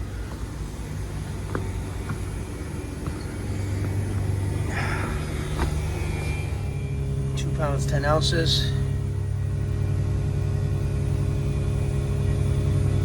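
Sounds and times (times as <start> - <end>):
heat pump unit humming: 0.0 - 13.0.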